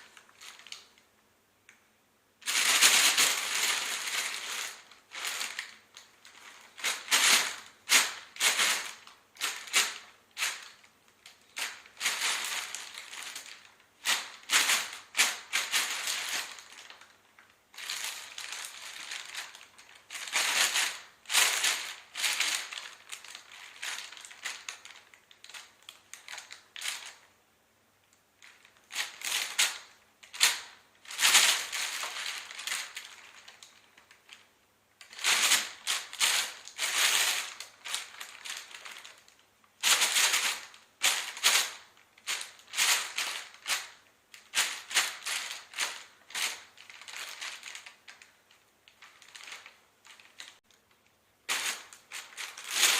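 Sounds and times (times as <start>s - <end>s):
bag crinkling and rustling: 2.4s - 27.2s, 28.4s - 52.9s.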